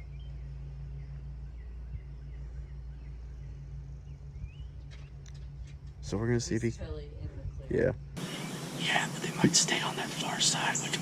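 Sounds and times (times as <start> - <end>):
songbird chirps: 0.0 - 6.8, 7.4 - 11.0
steady low hum: 0.0 - 11.0.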